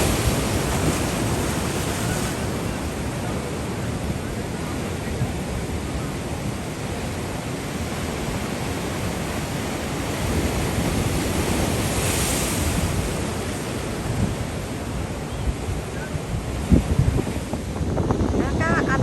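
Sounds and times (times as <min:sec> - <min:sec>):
surf breaking on shore: 0:00.0 - 0:19.0
wind on microphone: 0:00.0 - 0:19.0.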